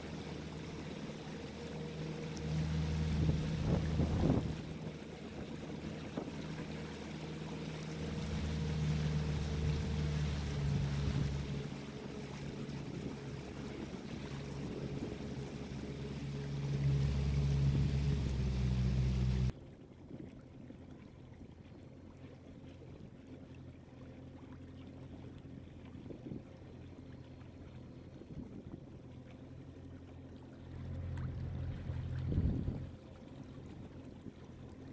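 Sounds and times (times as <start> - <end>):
boat motor humming: 0.0 - 34.9
water noise: 0.0 - 34.9
wind: 0.0 - 34.9.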